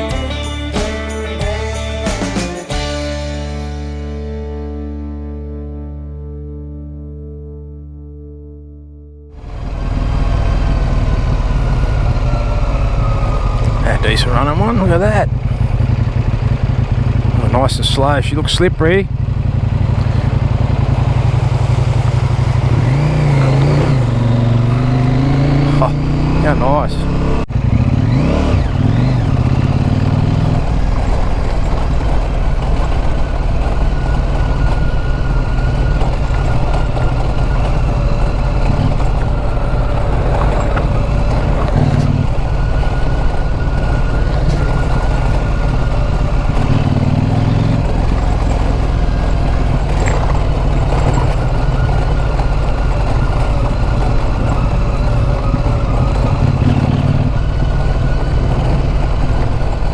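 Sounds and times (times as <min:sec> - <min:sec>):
motorcycle engine running: 0:00.0 - 0:06.3, 0:09.3 - 0:59.9.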